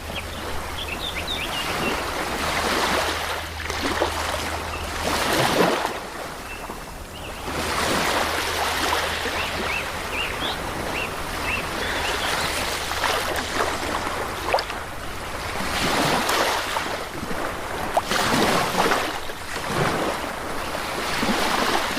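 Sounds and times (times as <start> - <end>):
sea waves breaking on shore: 0.0 - 21.9.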